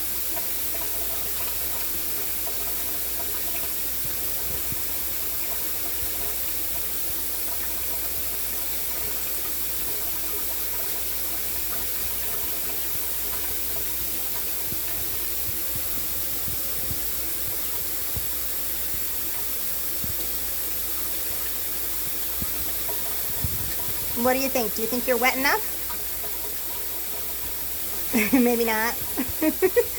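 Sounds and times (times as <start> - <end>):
shower spray hissing: 0.0 - 10.0, 10.6 - 29.9.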